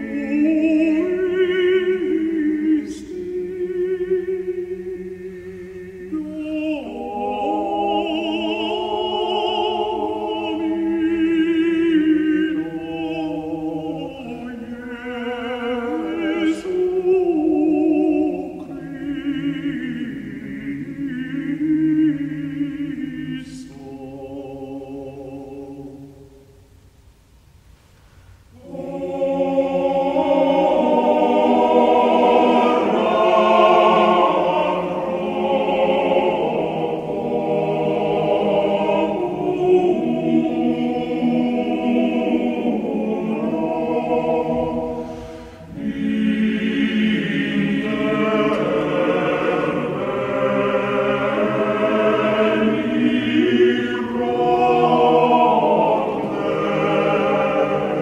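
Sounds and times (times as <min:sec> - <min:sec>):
choir singing a chant: 0:00.0 - 0:26.3, 0:28.5 - 0:58.0.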